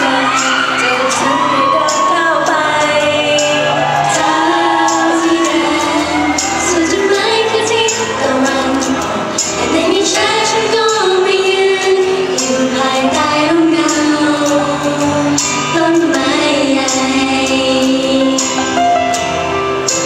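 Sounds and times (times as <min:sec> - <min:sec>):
pop song over speakers: 0:00.0 - 0:20.0.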